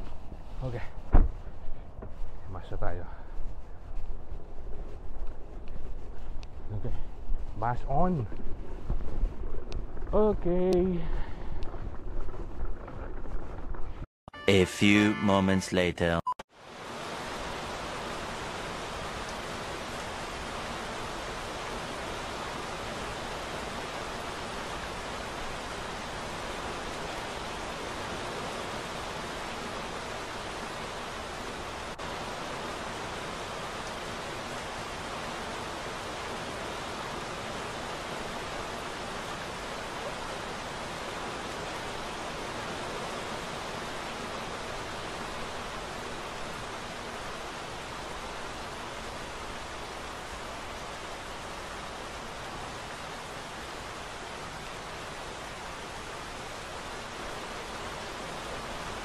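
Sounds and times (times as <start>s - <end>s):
rain hissing: 5.1s - 14.1s, 16.6s - 59.0s.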